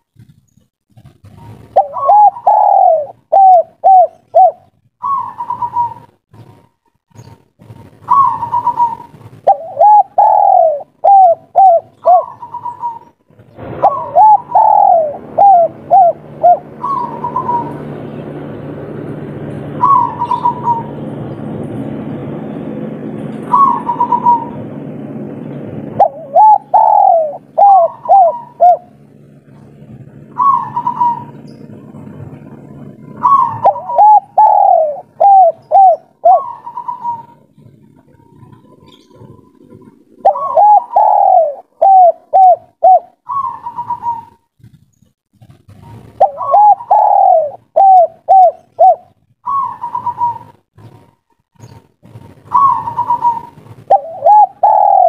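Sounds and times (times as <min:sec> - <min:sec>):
dove cooing: 0:01.0 - 0:06.6, 0:07.2 - 0:18.3, 0:19.6 - 0:21.5, 0:22.7 - 0:44.8, 0:45.8 - 0:51.8, 0:52.4 - 0:55.0.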